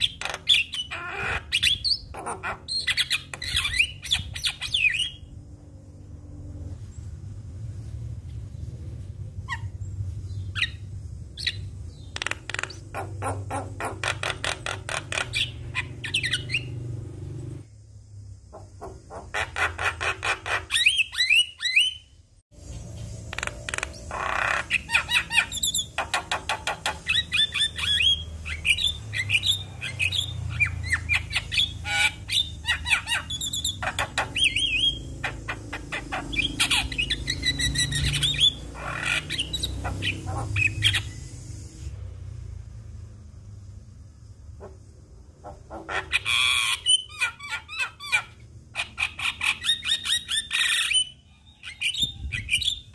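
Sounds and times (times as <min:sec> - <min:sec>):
bird singing with chattering notes: 0:00.0 - 0:05.4, 0:09.4 - 0:17.0, 0:18.6 - 0:41.5, 0:45.4 - 0:52.9.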